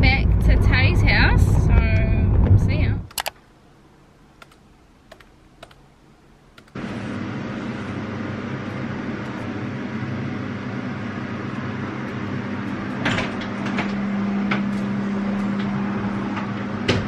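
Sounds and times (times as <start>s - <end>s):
fan whirring: 0.0s - 17.0s
low electrical hum: 0.0s - 17.0s.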